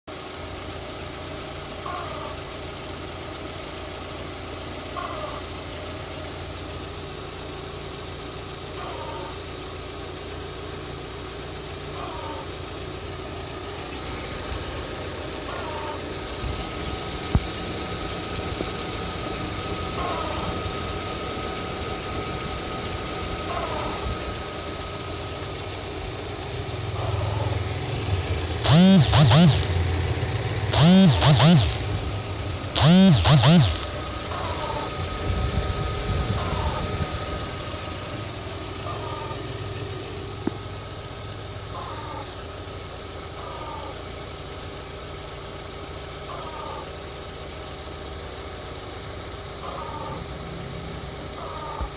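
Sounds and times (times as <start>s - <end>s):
car engine idling: 0.1s - 51.9s.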